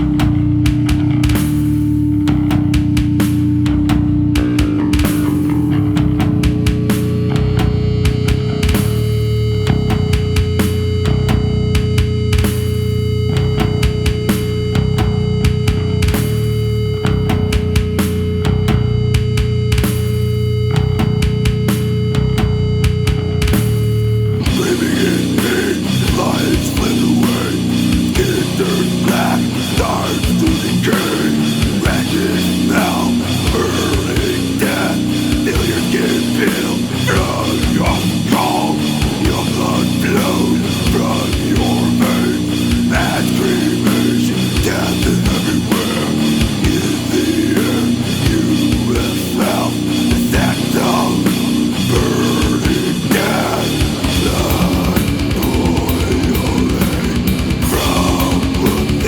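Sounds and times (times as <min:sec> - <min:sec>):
distorted electric guitars: 0:00.0 - 0:59.0
pounding drum kit: 0:00.0 - 0:59.0.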